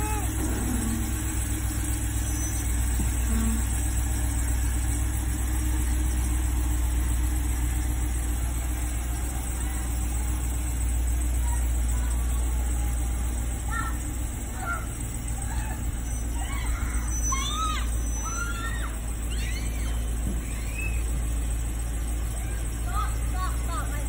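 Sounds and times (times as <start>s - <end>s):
pickup truck engine rumbling: 0.0s - 24.0s.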